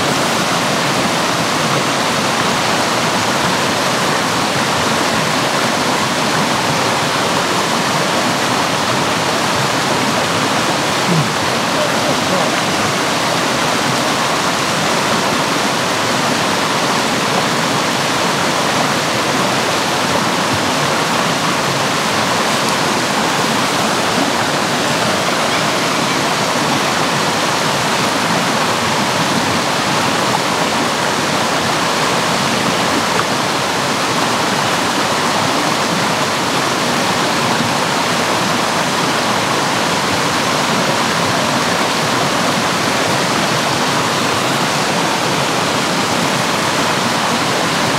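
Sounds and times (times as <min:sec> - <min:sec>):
rushing water: 0:00.0 - 0:47.9.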